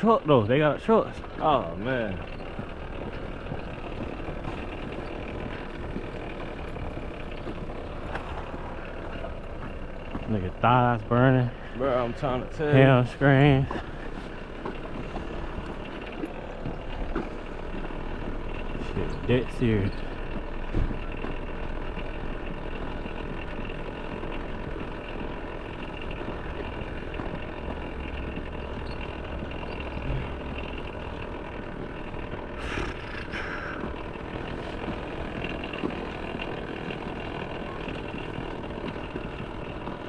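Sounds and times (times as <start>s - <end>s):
faint hum: 0.0s - 40.0s
vehicle engine and road noise: 0.0s - 40.0s.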